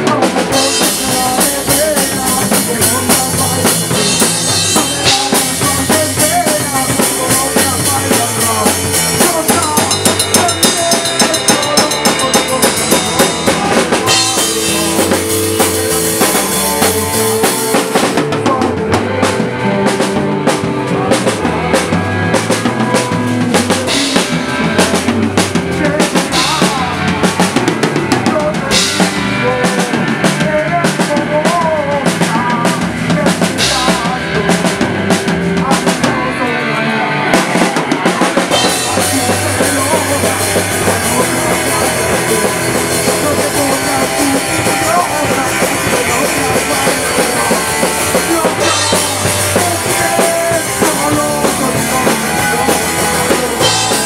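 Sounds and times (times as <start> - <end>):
bass guitar: 0.0 - 54.0
distorted electric guitar: 0.0 - 54.0
drum kit: 0.0 - 54.0.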